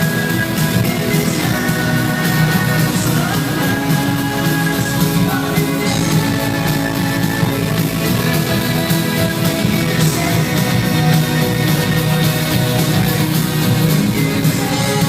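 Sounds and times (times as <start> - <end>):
distorted electric guitars: 0.0 - 15.0
heavy bass: 0.0 - 15.0
person singing: 0.0 - 15.0.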